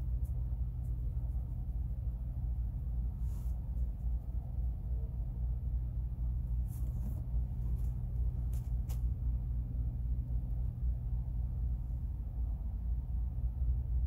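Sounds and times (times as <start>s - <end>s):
low hum and rumble: 0.0s - 14.0s.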